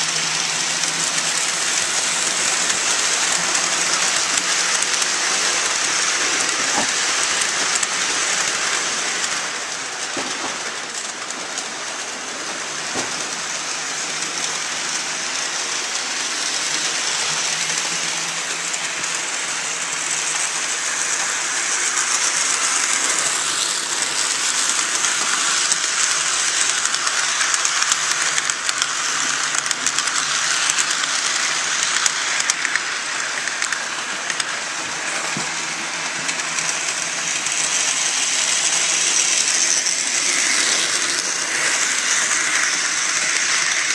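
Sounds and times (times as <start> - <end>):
model train motors whirring: 0.0 - 43.9.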